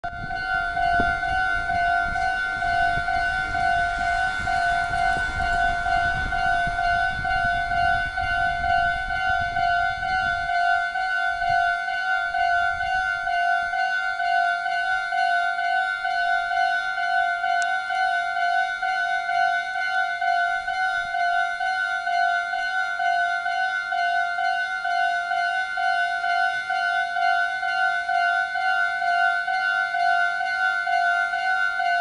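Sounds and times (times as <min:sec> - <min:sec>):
level crossing bell ringing: 0:00.0 - 0:32.0.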